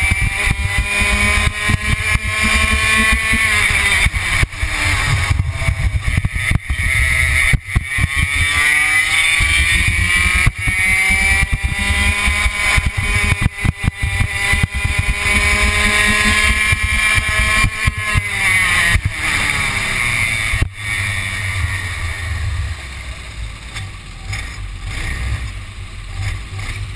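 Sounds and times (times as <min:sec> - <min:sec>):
kart engine accelerating: 0:00.0 - 0:26.9.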